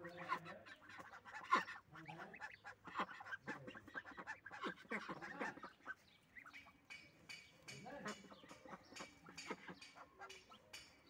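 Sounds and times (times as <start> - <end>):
goslings peeping: 0.0 - 11.0
goslings nibbling clicks: 0.1 - 11.0.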